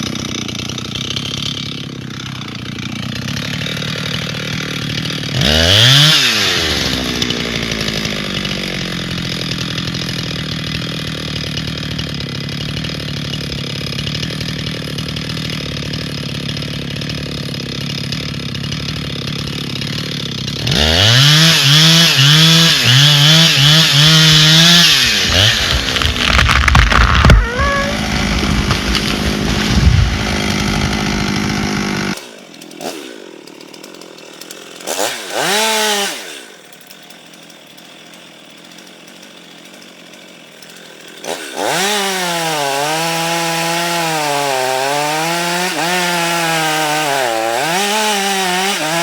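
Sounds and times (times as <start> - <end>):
chainsaw running and revving: 0.0 - 49.0.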